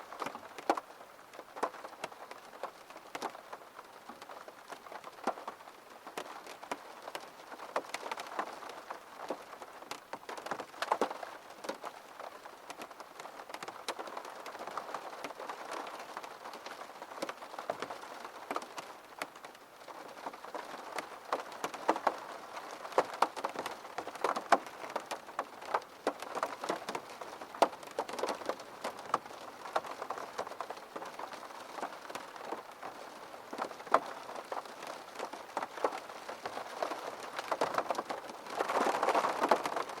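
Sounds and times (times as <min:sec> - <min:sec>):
rain tapping on a window: 0:00.0 - 0:40.0.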